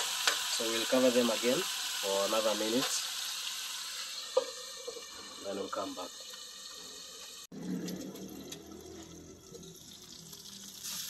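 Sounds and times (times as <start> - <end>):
tomatoes simmering in a pan: 0.0 - 11.0.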